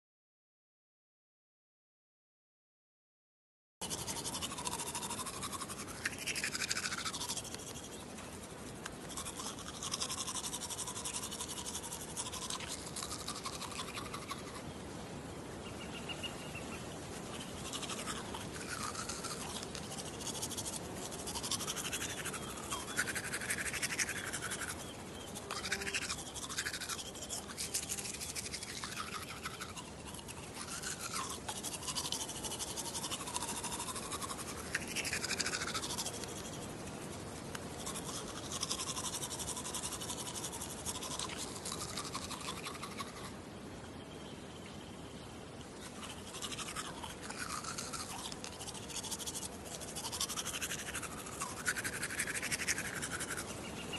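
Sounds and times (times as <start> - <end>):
toothbrush scrubbing teeth: 3.8 - 14.6, 17.2 - 43.3, 45.8 - 53.9.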